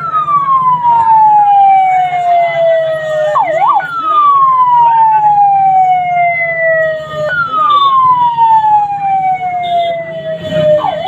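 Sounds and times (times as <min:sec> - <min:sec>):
electronic siren wail: 0:00.0 - 0:11.0
street noise: 0:00.0 - 0:11.0.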